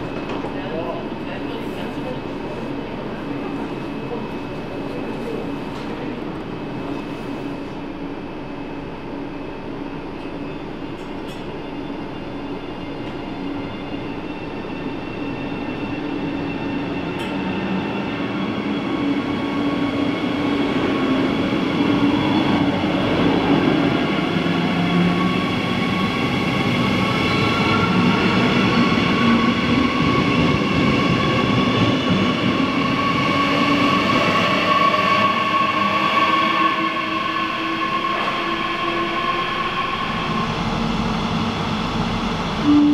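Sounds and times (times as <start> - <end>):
electric train rumbling past: 0.0 - 42.9
electric locomotive whine: 4.6 - 42.9.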